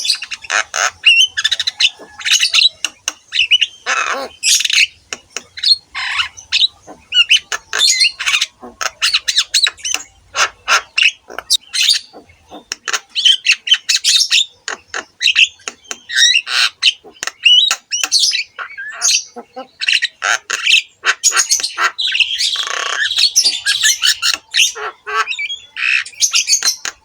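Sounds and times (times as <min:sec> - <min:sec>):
myna singing harsh squawks: 0:00.0 - 0:27.0.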